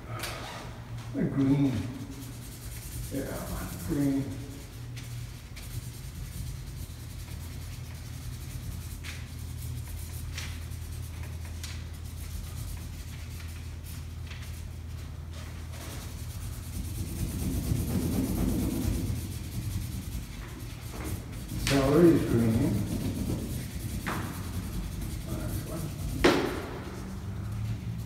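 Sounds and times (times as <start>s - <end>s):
steady low hum: 0.0s - 28.0s
marker pen rubbing on paper: 1.3s - 28.0s.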